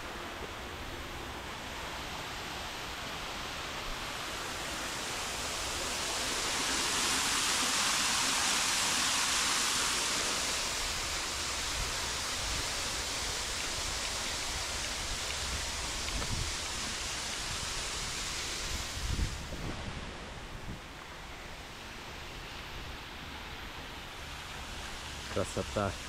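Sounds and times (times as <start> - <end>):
fountain water splashing: 0.0 - 20.2, 21.0 - 26.0.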